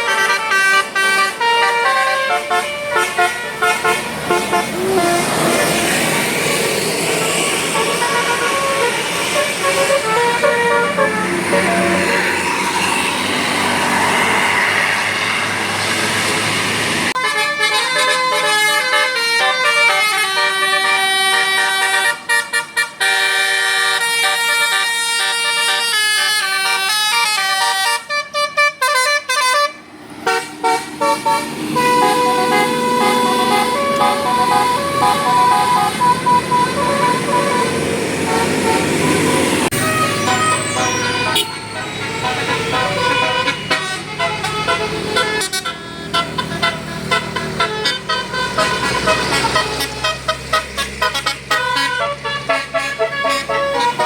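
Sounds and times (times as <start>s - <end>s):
multi-tone bus horn tune: 0.0s - 54.0s.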